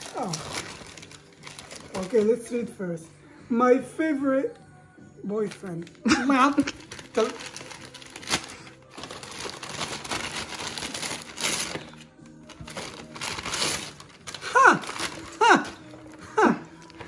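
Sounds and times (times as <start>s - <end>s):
wrapping paper tearing and rustling: 0.0s - 2.6s, 5.5s - 17.0s.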